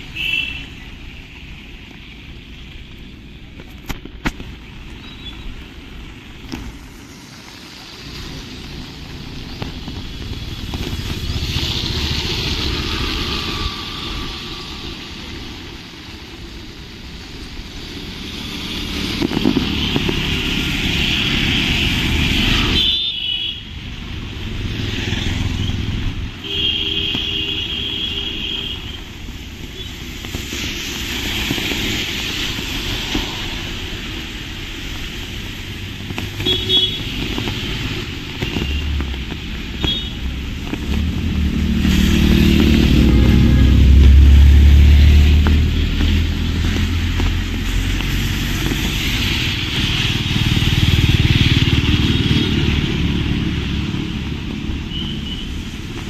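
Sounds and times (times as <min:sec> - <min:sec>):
motorcycles and cars passing: 0:00.0 - 0:56.0.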